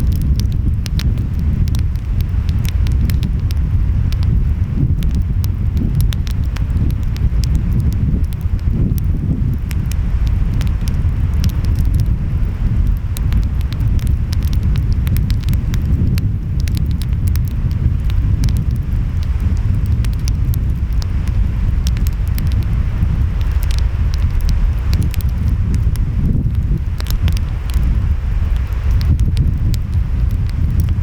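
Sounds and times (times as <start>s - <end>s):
fire pops and snaps: 0.0s - 31.0s
wind: 0.0s - 31.0s
wood fire crackling: 0.0s - 31.0s.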